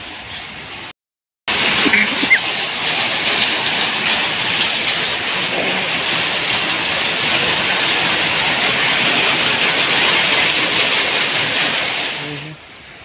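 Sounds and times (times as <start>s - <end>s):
powerloom machinery running: 1.5s - 12.6s.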